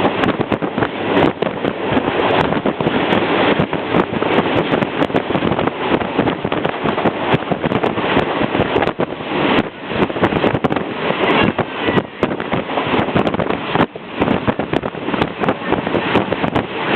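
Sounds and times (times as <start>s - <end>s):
train track and carriage rush: 0.0s - 16.9s
wind buffeting microphone: 0.0s - 16.9s.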